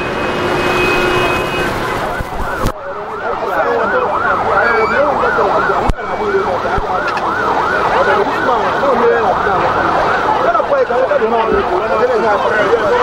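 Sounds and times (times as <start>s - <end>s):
siren yelping: 0.9s - 13.0s.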